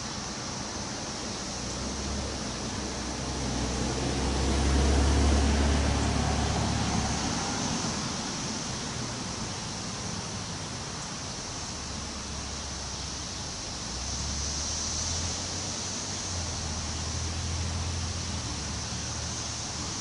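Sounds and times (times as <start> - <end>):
rustling leaves: 0.0 - 20.0
wind blowing through trees: 0.0 - 20.0.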